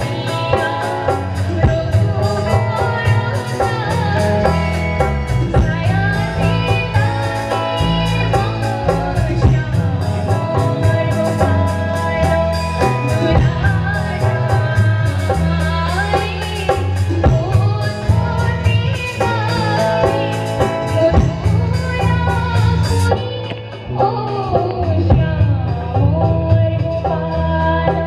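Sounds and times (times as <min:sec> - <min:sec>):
drums: 0:00.0 - 0:28.0
guitar: 0:00.0 - 0:28.0
woman singing into a microphone: 0:00.0 - 0:28.0.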